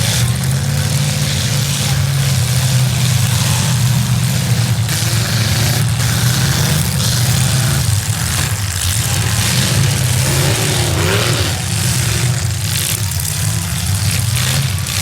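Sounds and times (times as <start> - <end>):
car engines running loudly: 0.0 - 15.0.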